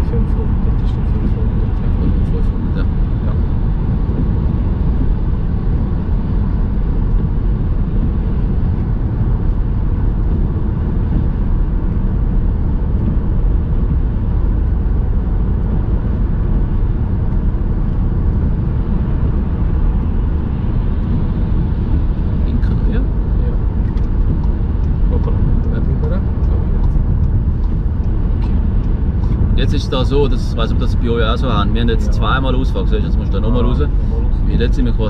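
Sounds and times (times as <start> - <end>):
car cabin road and wind rumble: 0.0 - 35.0.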